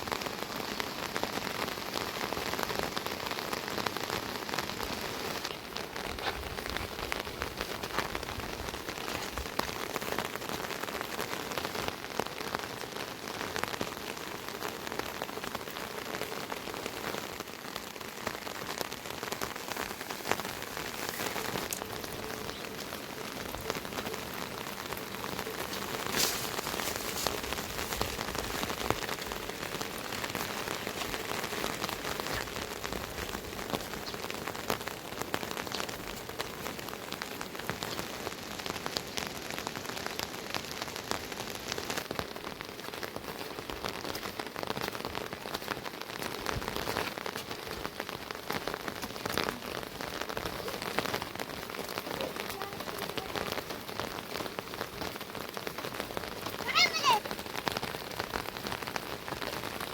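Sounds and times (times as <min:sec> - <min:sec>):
raindrops tapping: 0:00.0 - 0:59.9
steady rain falling: 0:00.0 - 0:59.9.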